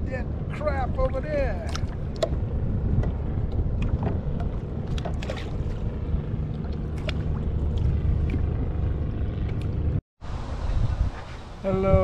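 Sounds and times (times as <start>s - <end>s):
water lapping against hull: 0.0s - 10.0s
wind buffeting microphone: 0.0s - 12.0s.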